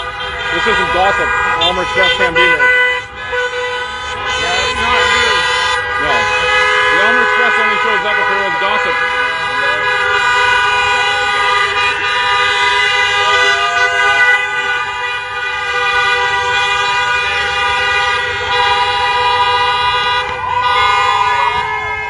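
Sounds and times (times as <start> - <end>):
vehicle horns blaring: 0.0 - 22.0.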